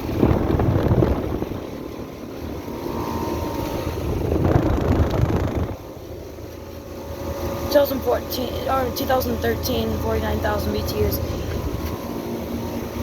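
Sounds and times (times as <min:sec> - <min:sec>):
air conditioning unit running: 0:00.0 - 0:13.0.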